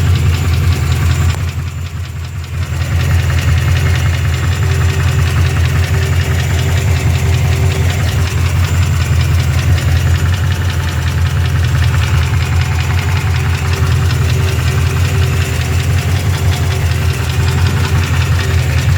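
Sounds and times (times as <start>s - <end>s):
engine idling with rapid knock: 0.0s - 18.9s.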